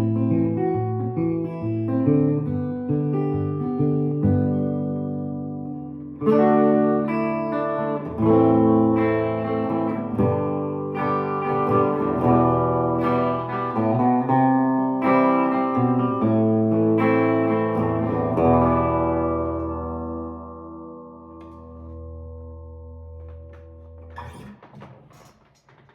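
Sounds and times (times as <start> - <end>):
hollow-body guitar chords ringing: 0.0 - 25.2.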